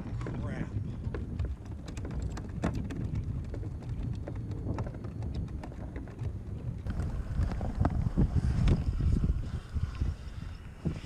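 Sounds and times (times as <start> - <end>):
water lapping against kayak: 0.0 - 11.0
wind buffeting microphone: 0.0 - 11.0.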